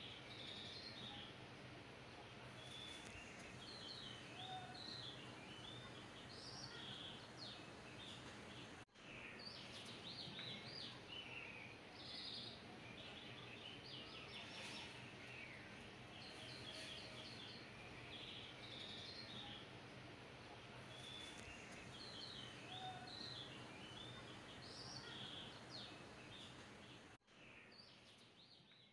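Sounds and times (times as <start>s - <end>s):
birds chirping and trilling: 0.0s - 1.4s, 2.5s - 19.8s, 20.8s - 28.9s.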